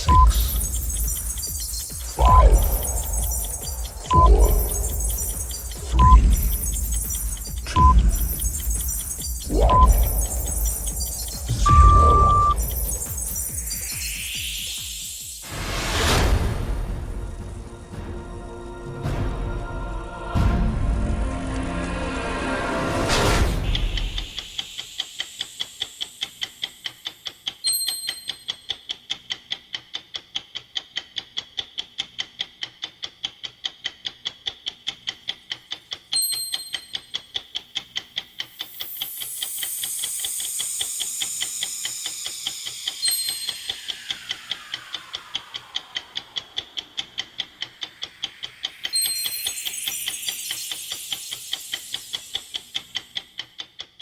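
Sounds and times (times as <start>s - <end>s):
fast clock ticking: 0.0s - 15.5s, 23.7s - 54.0s.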